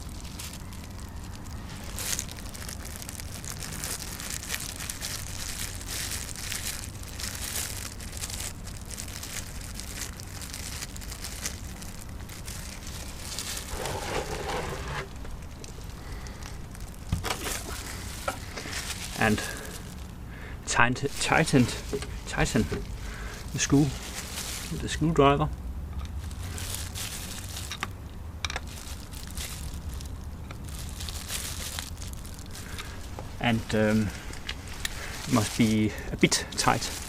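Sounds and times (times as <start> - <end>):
crinkling and rustling handling: 0.0 - 37.0
low steady hum: 0.0 - 37.0.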